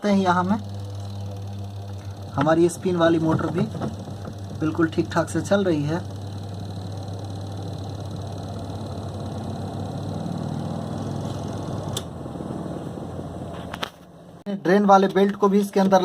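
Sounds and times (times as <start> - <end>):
washing machine motor hum: 0.0 - 14.5.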